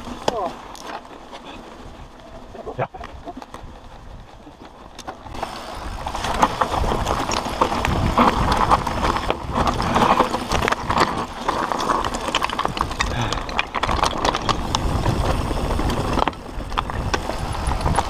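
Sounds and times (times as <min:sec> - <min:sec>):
bike rattling over stones: 0:00.0 - 0:18.0
bike tyres crunching on stones: 0:00.0 - 0:18.0
wind rumble on microphone: 0:01.6 - 0:18.0.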